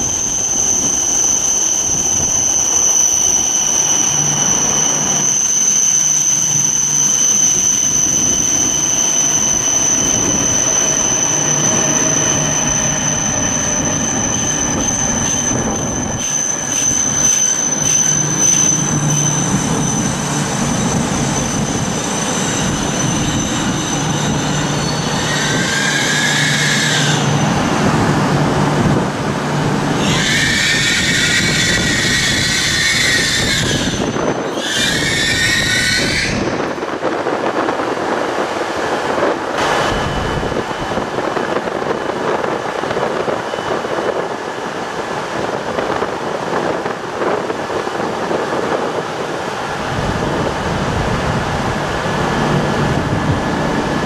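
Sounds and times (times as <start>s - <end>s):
train brakes squealing: 0.0s - 27.9s, 29.6s - 37.9s, 39.0s - 49.4s
standing train humming: 0.0s - 54.0s.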